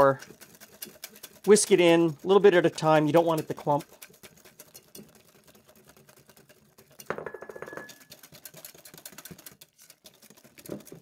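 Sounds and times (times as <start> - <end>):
whisk clicking against glass bowl: 0.0 - 11.0.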